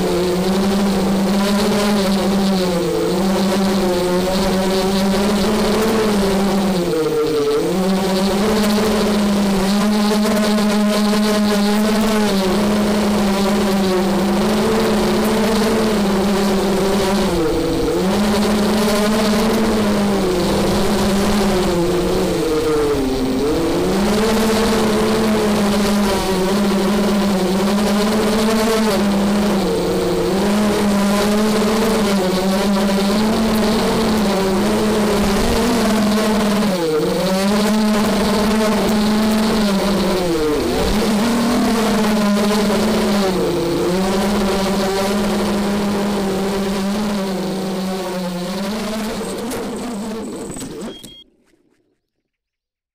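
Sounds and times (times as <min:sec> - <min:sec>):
drone motors buzzing: 0:00.0 - 0:52.0.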